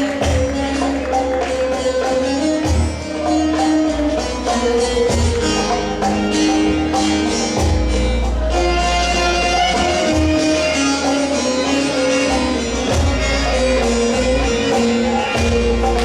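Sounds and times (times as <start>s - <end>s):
frame drum and tambourine beat: 0.0s - 16.0s
plucked string melody: 0.0s - 16.0s.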